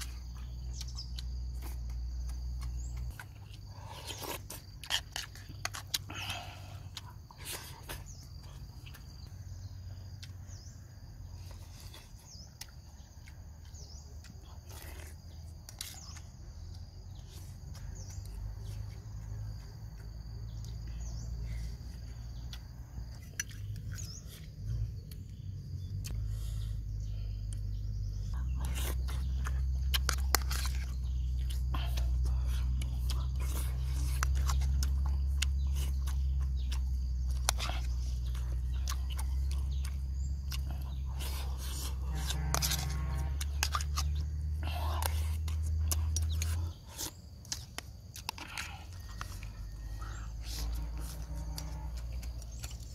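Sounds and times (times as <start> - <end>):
bird chirps: 0.0 - 4.2, 6.1 - 52.9
faint insect chirps: 0.0 - 52.9
soft chewing: 0.0 - 52.9.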